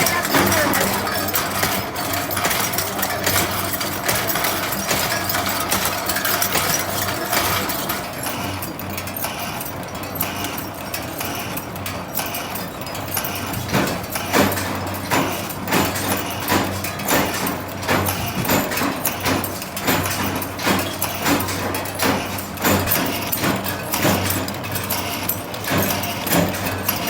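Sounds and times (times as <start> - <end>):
factory machinery hum: 0.0 - 27.0
machinery clatter: 0.0 - 27.0.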